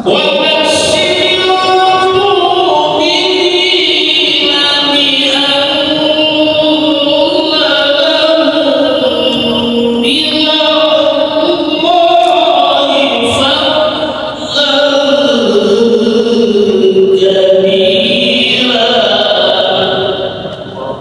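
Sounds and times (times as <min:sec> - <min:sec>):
amplified devotional chanting: 0:00.0 - 0:21.0.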